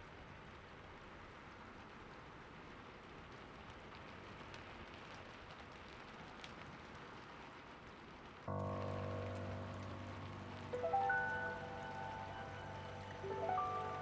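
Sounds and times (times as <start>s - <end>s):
soft rainfall hiss: 0.0s - 14.0s.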